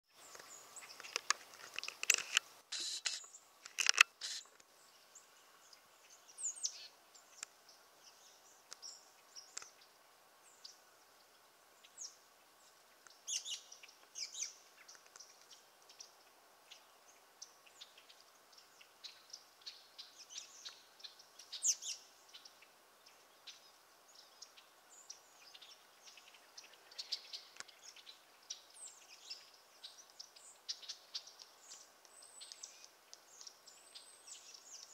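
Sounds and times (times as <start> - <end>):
finches chirping and twittering: 4.2 - 34.9.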